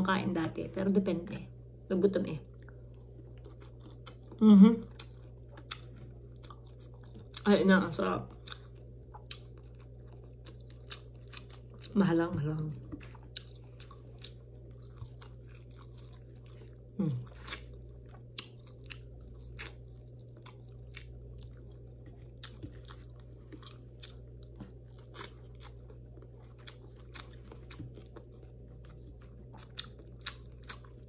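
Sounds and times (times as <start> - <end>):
chewing and crunching food: 2.4 - 31.0.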